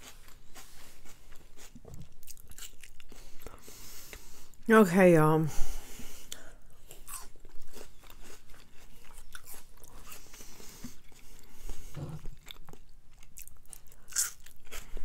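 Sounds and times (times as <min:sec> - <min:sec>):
person chewing food: 0:00.0 - 0:04.6, 0:05.8 - 0:15.0.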